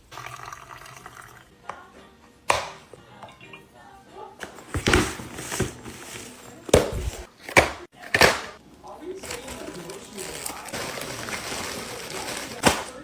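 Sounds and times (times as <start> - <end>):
faint indistinct voices or music: 0.4 - 13.0.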